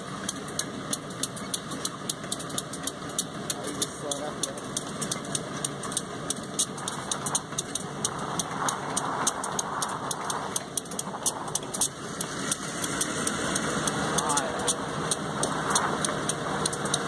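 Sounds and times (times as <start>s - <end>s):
car road noise: 0.0s - 17.0s
diesel locomotive rolling: 0.0s - 17.0s
sharp clicks: 0.2s - 17.0s.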